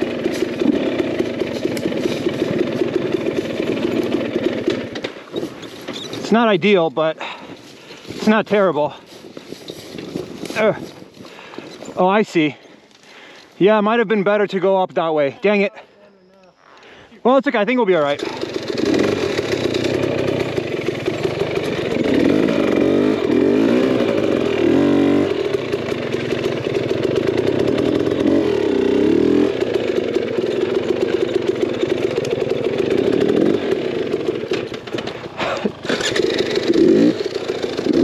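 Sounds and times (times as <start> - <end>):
two-stroke engine revving: 0.0 - 11.8, 18.0 - 38.0.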